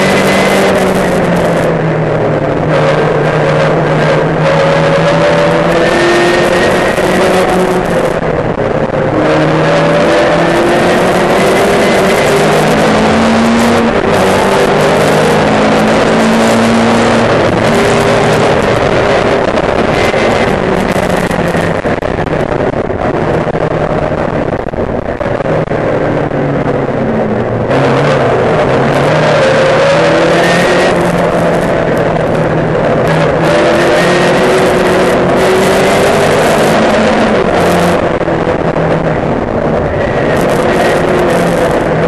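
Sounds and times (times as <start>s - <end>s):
race car engine revving: 0.0s - 42.0s.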